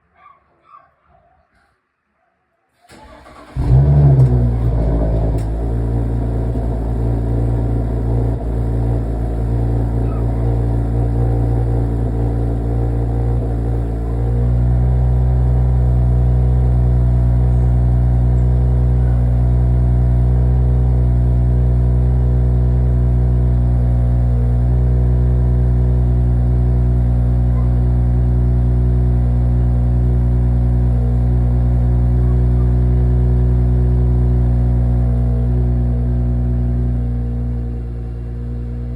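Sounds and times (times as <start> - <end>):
car engine idling: 2.9 - 38.9.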